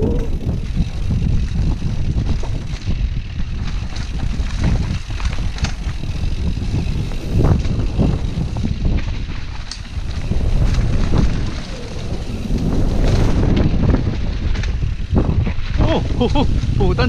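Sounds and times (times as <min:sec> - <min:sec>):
bike knocks and rattles: 0:00.0 - 0:17.0
wind buffeting microphone: 0:00.0 - 0:17.0.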